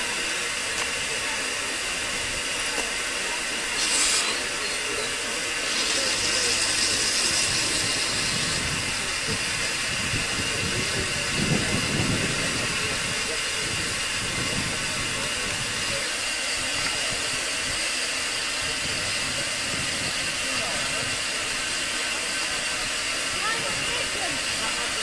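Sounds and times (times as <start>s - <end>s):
steam hissing from locomotive: 0.0s - 25.0s.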